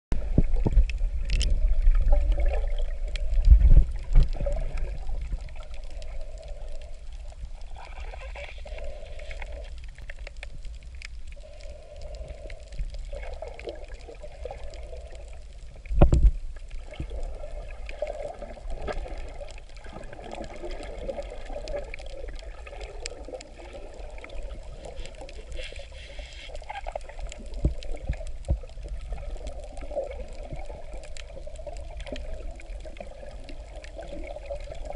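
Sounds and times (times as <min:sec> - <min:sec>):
muffled underwater gurgling: 0:00.2 - 0:34.9.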